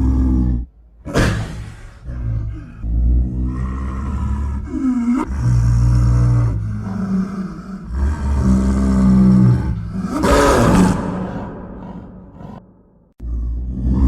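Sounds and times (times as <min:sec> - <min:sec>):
large animal calling: 0:00.0 - 0:13.1.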